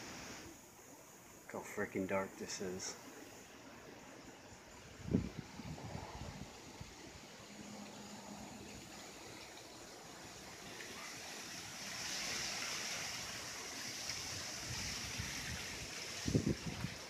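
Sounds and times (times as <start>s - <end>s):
wind hissing through trees: 0.0s - 17.0s.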